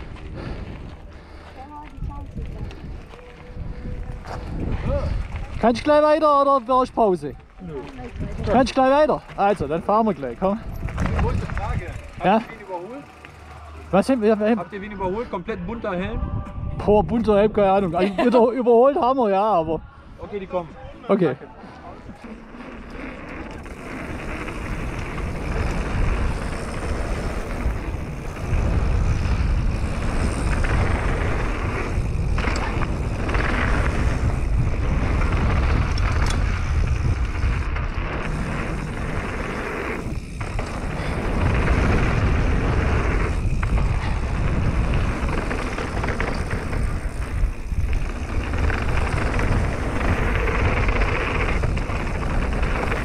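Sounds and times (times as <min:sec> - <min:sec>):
wind noise on microphone: 0:00.0 - 0:06.1, 0:07.7 - 0:12.4, 0:15.0 - 0:18.4, 0:22.0 - 0:53.0
bike tyres rattling over gravel: 0:00.0 - 0:15.0, 0:22.2 - 0:53.0.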